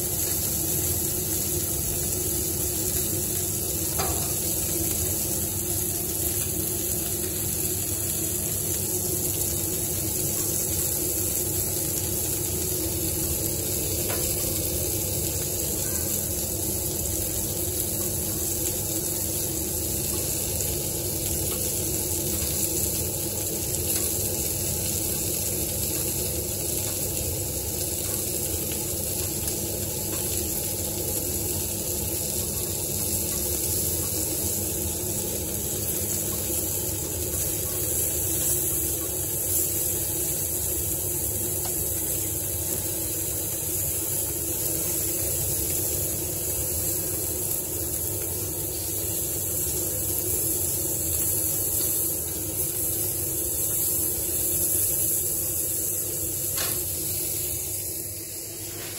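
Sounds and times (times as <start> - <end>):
meat sizzling on a grill: 0.0 - 58.9.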